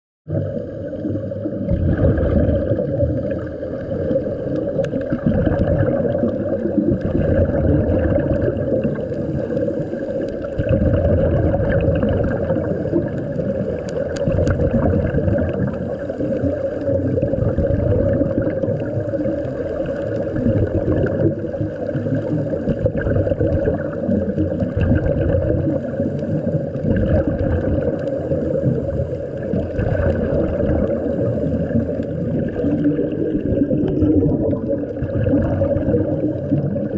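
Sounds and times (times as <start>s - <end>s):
muffled underwater rumble: 0.3s - 36.9s
regulator bubbles gurgling: 0.3s - 36.9s.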